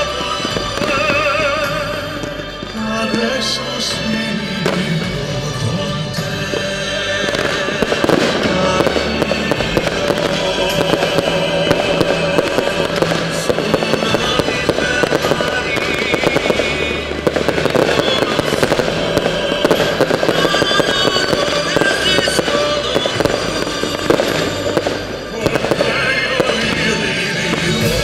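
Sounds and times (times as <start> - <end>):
fireworks crackling and popping: 0.0 - 28.0
music playing: 0.0 - 28.0.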